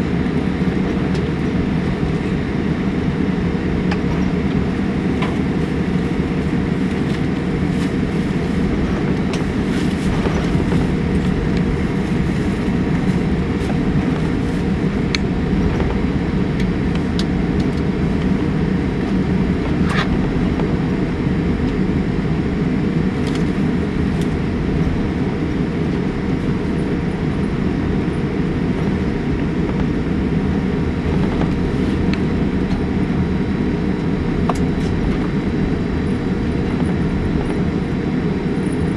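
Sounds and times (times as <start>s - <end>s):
airliner cabin low rumble: 0.0s - 38.9s.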